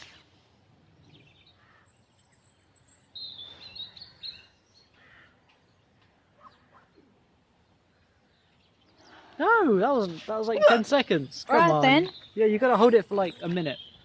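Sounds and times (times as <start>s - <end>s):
songbirds chirping faintly: 0.0s - 14.0s.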